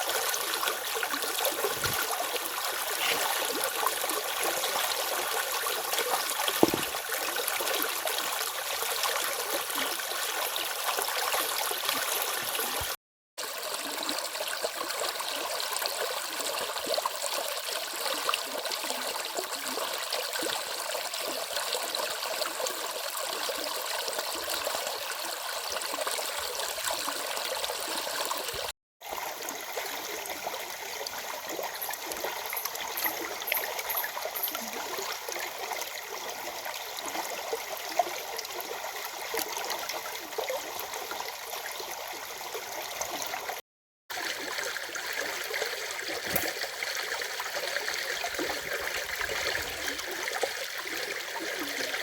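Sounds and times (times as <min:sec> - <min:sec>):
stream water flowing: 0:00.0 - 0:52.0.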